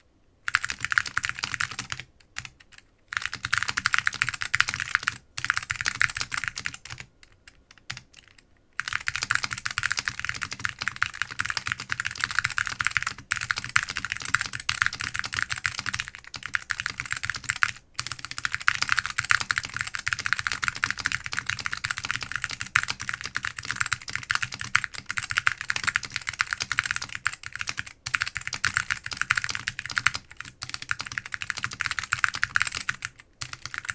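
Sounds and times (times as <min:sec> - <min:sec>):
mechanical keyboard typing: 0:00.5 - 0:33.9.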